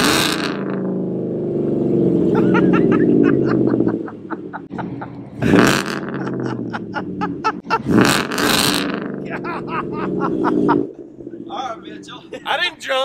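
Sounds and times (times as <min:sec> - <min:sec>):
engine revving: 0:00.0 - 0:12.4
engine idling with loud exhaust: 0:00.0 - 0:13.0.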